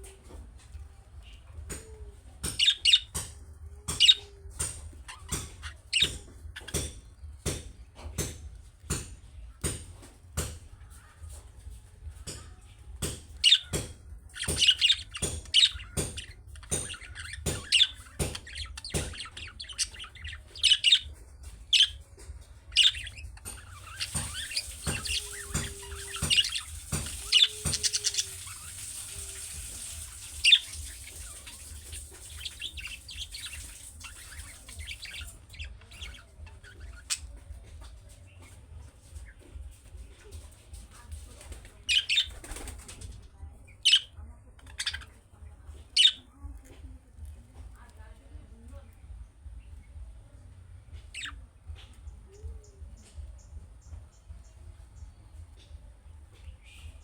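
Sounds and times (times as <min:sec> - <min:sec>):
budgerigars chirping and squawking: 0:01.2 - 0:11.4, 0:12.2 - 0:46.3, 0:51.0 - 0:55.7.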